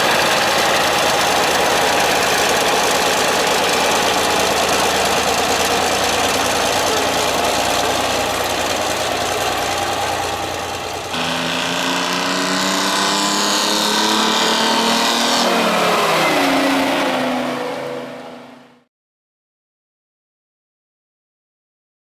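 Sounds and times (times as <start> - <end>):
truck diesel engine running: 0.0 - 18.8.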